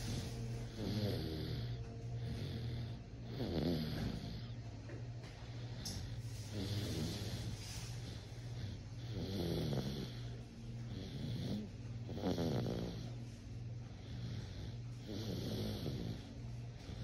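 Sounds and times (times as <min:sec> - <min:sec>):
person snoring: 0:00.0 - 0:04.6, 0:05.8 - 0:13.2, 0:13.9 - 0:17.0
steady low hum: 0:00.0 - 0:17.0.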